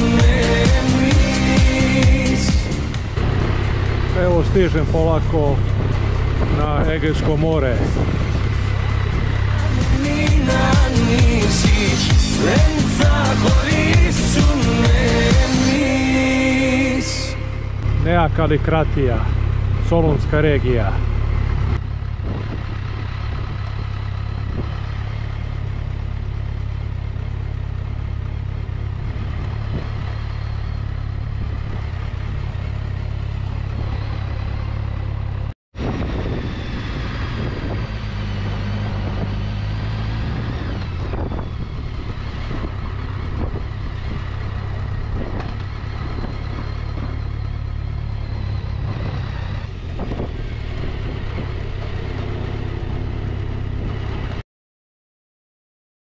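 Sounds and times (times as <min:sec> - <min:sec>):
motorcycle engine running: 0:00.0 - 0:54.4.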